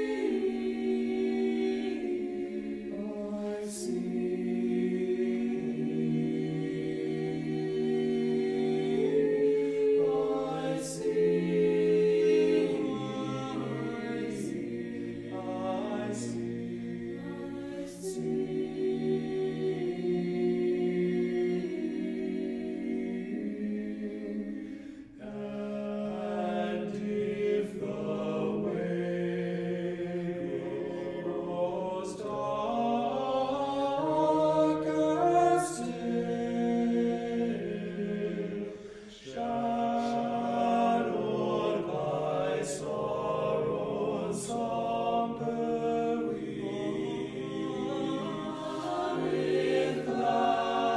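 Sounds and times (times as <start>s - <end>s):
choir singing sustained chords: 0.0s - 50.9s.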